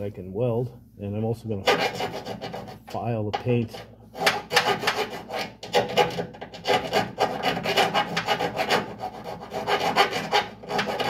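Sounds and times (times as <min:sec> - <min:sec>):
hand file rasping metal: 0:01.6 - 0:11.0.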